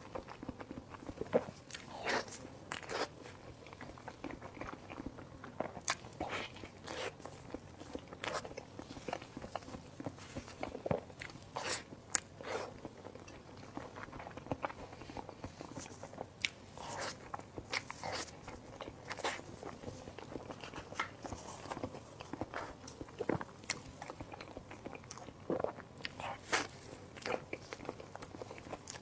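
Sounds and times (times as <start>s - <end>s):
person chewing soft food: 0.0s - 29.0s.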